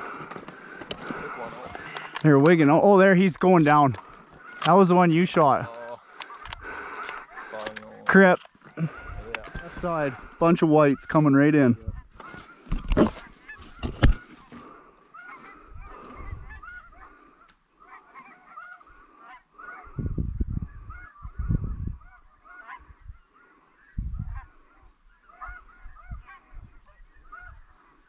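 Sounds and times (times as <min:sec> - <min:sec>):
geese honking: 0:00.0 - 0:20.1, 0:20.7 - 0:28.0.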